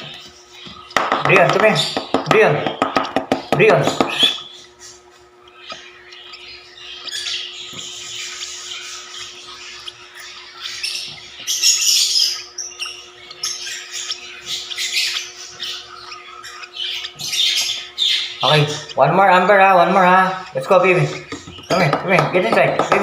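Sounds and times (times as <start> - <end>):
lovebirds squawking and chattering: 0.0 - 23.0
steady low hum: 0.0 - 23.0.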